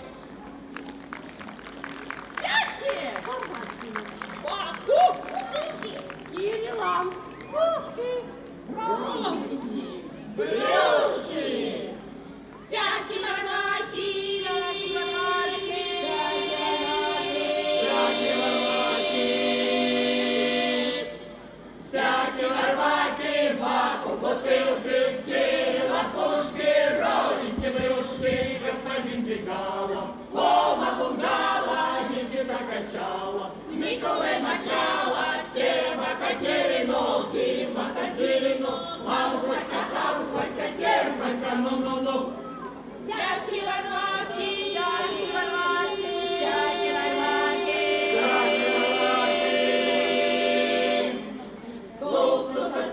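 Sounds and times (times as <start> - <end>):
folk choir singing: 8.6 - 52.9.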